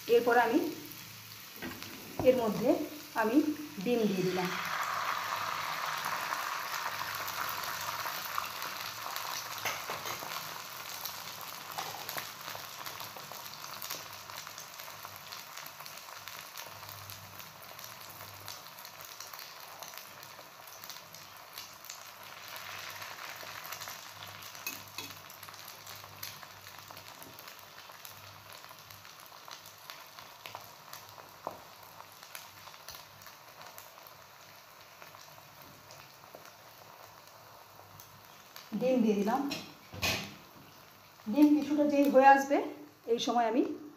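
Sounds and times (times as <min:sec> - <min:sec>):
egg sizzling on a hot pan: 0:00.0 - 0:43.9.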